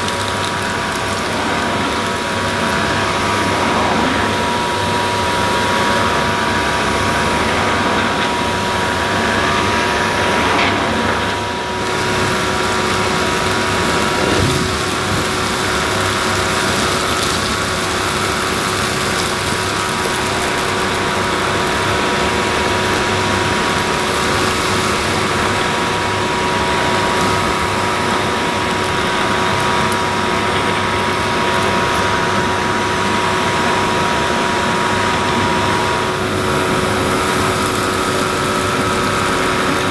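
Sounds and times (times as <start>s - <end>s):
powered brush sweeping debris: 0.0s - 39.9s
vacuum cleaner running: 0.0s - 39.9s.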